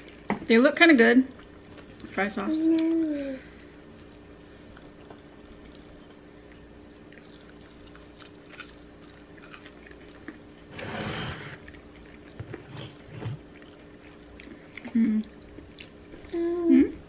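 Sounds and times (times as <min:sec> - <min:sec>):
steady low hum: 0:00.0 - 0:17.0
chewing french fries: 0:01.3 - 0:10.8, 0:11.5 - 0:16.9.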